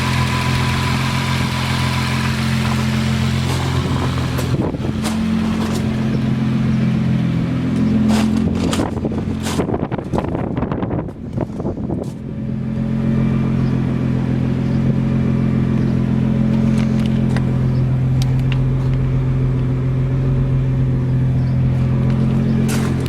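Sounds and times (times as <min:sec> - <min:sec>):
car engine idling: 0:00.0 - 0:08.9, 0:12.3 - 0:23.0.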